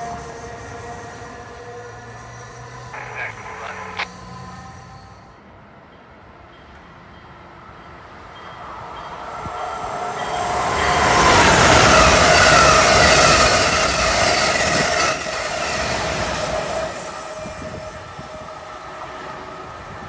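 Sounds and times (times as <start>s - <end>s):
train rushing through station: 2.9s - 20.0s.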